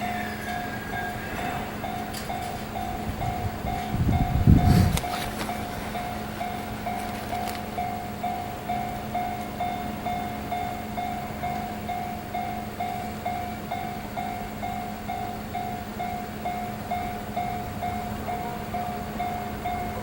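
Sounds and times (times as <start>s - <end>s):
level crossing bell clanging: 0.0s - 20.0s
rumble of railway traffic: 0.0s - 20.0s.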